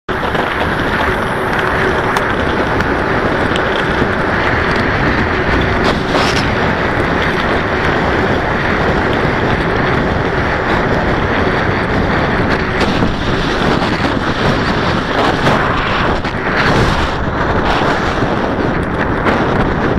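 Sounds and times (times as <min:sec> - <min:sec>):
ground rumble: 0:00.1 - 0:19.9
wind roar on microphone: 0:00.1 - 0:19.9.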